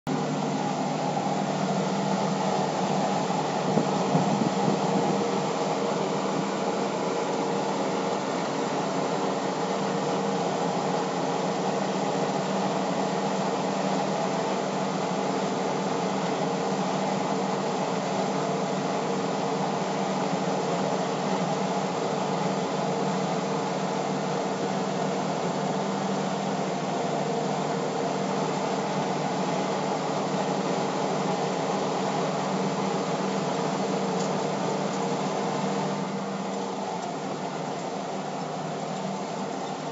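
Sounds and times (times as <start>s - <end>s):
combine harvester drone: 0.1s - 39.9s.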